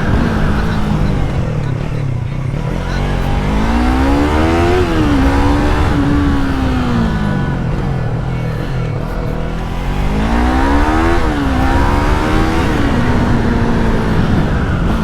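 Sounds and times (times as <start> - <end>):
motorcycle engine revving: 0.0 - 15.0
road and wind noise: 0.0 - 15.0.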